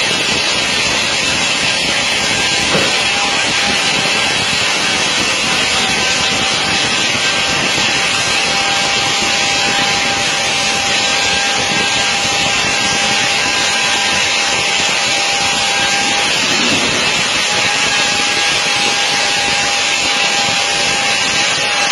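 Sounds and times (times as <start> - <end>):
thin steady whine: 0.0 - 21.9.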